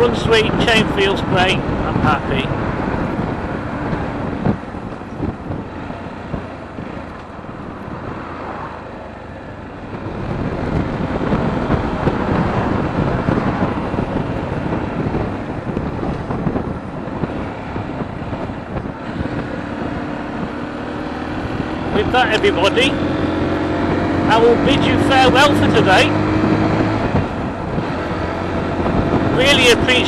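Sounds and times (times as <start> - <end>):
motorcycle running: 0.0 - 30.0
wind buffeting microphone: 0.0 - 30.0.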